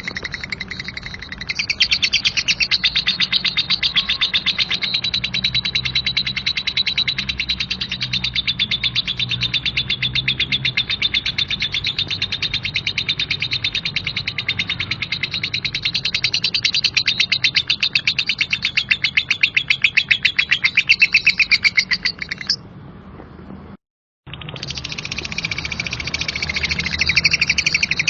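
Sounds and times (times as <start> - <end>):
lovebird chattering: 0.0 - 22.6, 24.3 - 28.0.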